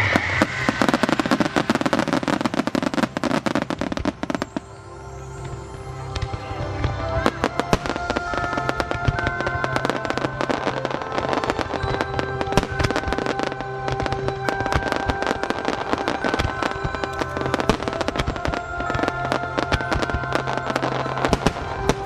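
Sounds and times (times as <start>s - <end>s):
fireworks crackling and banging: 0.0s - 22.0s
song from loudspeakers: 0.0s - 22.0s.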